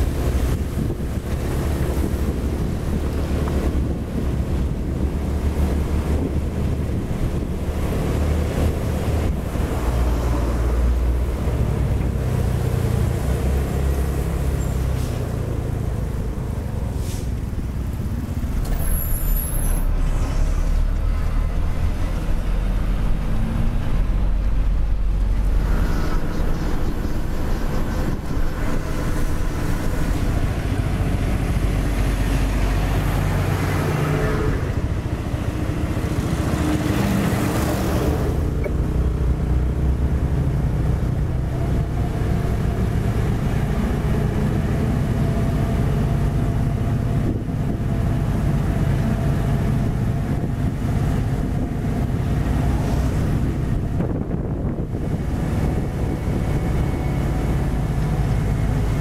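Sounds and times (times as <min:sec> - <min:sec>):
diesel truck engine running: 0:00.0 - 0:59.0
road rumble: 0:00.0 - 0:59.0.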